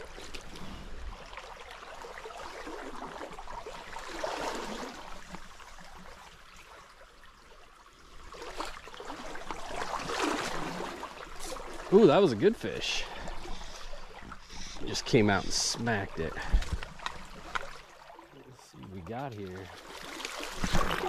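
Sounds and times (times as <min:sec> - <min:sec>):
creek water rushing: 0:01.2 - 0:06.0, 0:08.3 - 0:21.0.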